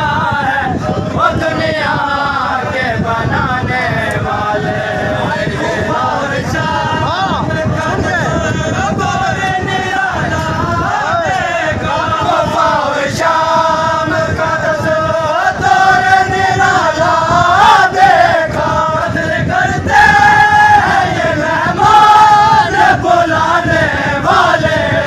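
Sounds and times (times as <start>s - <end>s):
crowd of men chanting: 0.0s - 25.0s.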